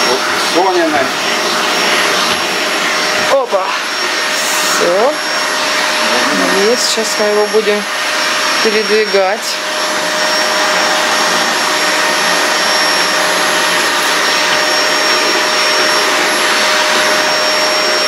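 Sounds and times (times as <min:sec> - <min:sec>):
constant whine: 0:00.0 - 0:18.0
vacuum cleaner running: 0:00.0 - 0:18.0.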